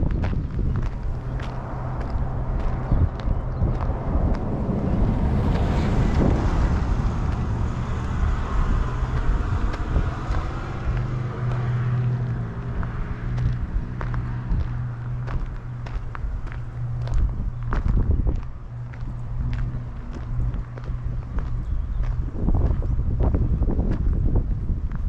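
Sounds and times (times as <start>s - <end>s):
motor vehicle passing: 0.0s - 25.0s
steady low hum: 0.0s - 25.0s.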